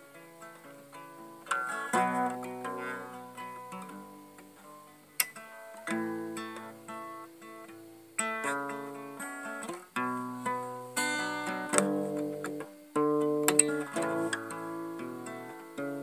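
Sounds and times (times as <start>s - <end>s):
guitar chords and plucked notes: 0.0s - 16.0s.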